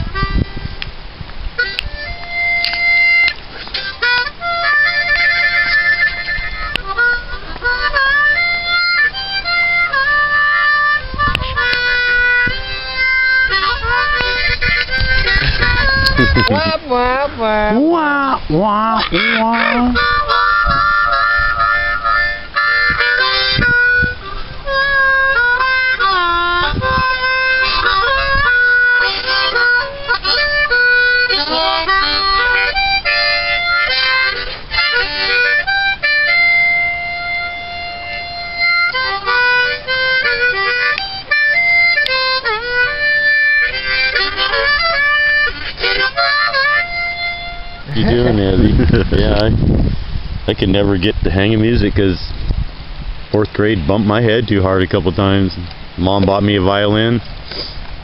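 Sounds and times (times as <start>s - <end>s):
harmonica playing: 0.0s - 0.8s, 1.5s - 17.8s, 18.8s - 50.0s, 56.0s - 57.9s.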